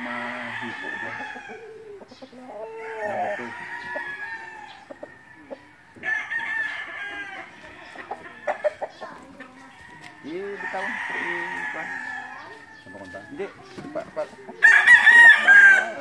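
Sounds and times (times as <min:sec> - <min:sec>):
roosters crowing: 0:00.0 - 0:16.0.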